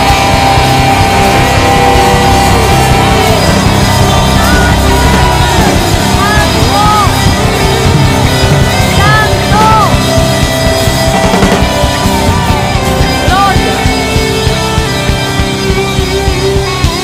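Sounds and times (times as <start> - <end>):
voices singing long gliding notes: 0.0 - 16.6
rock worship band playing: 0.0 - 17.0.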